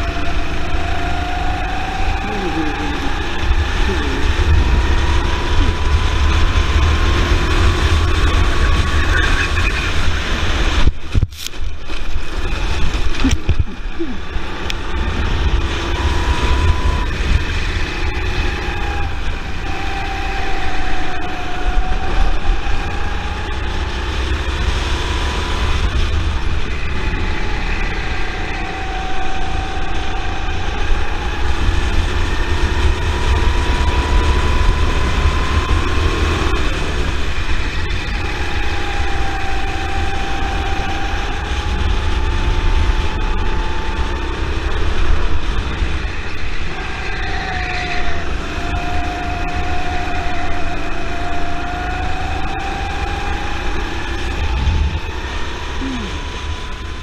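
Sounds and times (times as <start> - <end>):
go-kart engine: 0.0 - 57.0
wind rumble on microphone: 0.0 - 57.0.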